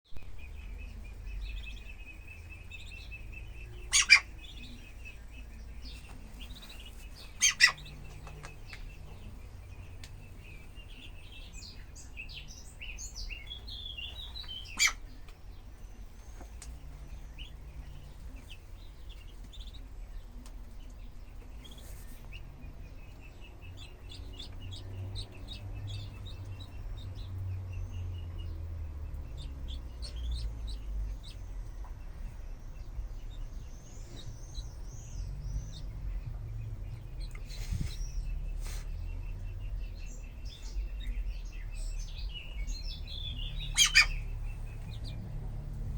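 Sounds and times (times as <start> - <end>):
ducklings peeping: 0.2 - 45.9.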